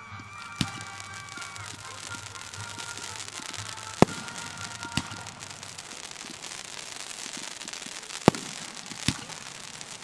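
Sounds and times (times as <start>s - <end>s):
fireworks crackling and popping: 0.0s - 10.0s
firework shells bursting: 0.3s - 10.0s
sharp firework bangs: 0.4s - 10.0s.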